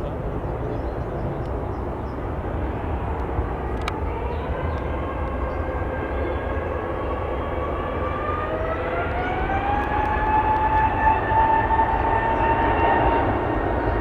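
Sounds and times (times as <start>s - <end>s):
jet engines whining: 0.0s - 14.0s
low rumble and rushing noise: 0.0s - 14.0s.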